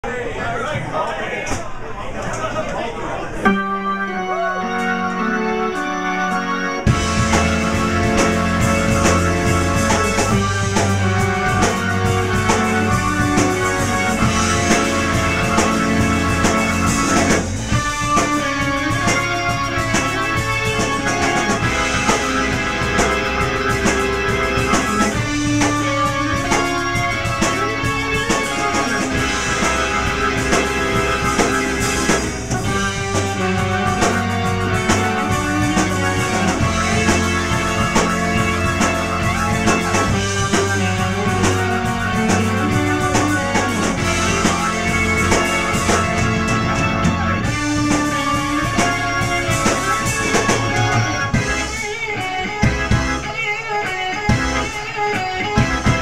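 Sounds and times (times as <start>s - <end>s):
live rock band playing: 3.4s - 56.0s.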